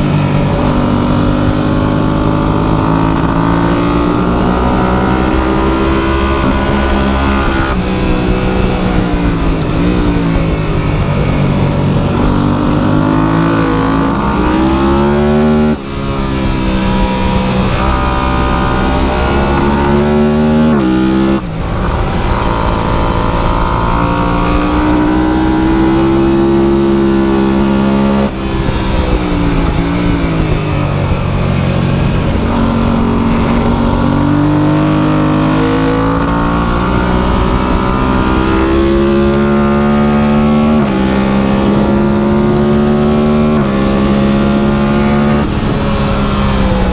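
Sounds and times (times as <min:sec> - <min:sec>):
racing engine revving: 0:00.0 - 0:46.9.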